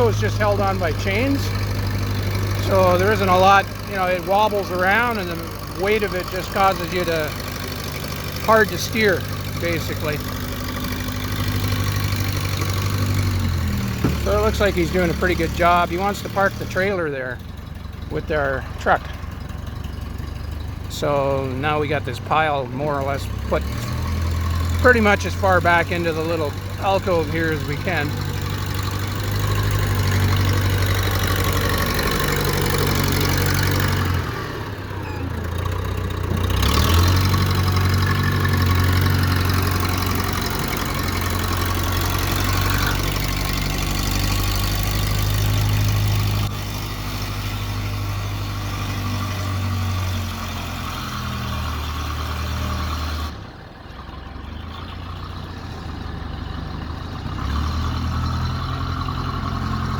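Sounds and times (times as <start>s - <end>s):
backhoe engine revving: 0.0s - 59.9s.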